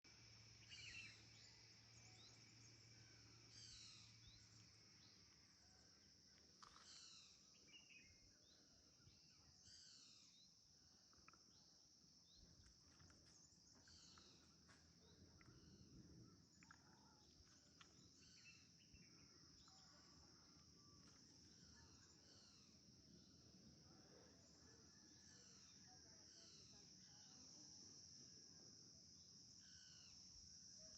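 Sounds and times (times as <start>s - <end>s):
faint birdsong: 0.1s - 28.2s, 29.1s - 30.9s
high-pitched insect drone: 0.2s - 10.5s, 15.6s - 30.9s.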